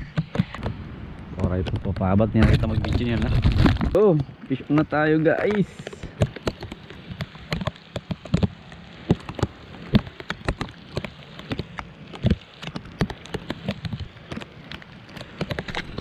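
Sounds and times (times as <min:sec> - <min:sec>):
rain hissing on water: 0:00.0 - 0:16.0
raindrops tapping: 0:01.4 - 0:16.0.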